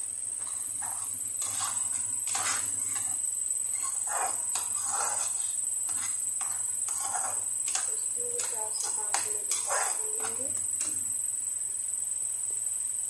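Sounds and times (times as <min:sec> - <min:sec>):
steady high-pitched hiss: 0:00.0 - 0:13.0
spatula scraping metal pan: 0:00.4 - 0:11.0.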